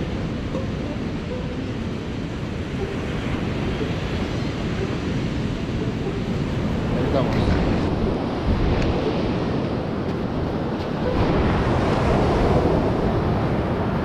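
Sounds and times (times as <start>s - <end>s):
surf breaking on a beach: 0.0s - 14.0s
wind rumbling on microphone: 0.0s - 14.0s.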